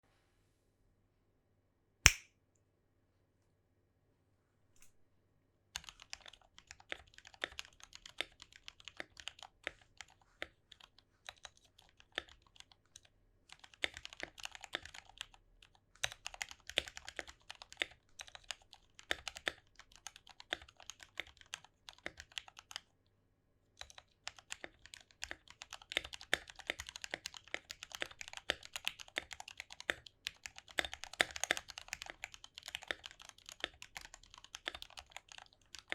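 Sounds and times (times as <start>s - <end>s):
mechanical keyboard typing: 5.8s - 22.9s, 23.8s - 35.9s.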